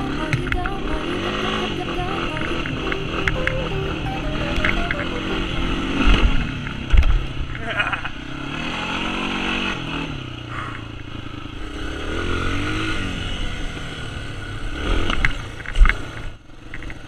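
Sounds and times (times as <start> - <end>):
off-road engines revving: 0.0 - 3.4, 4.6 - 17.0.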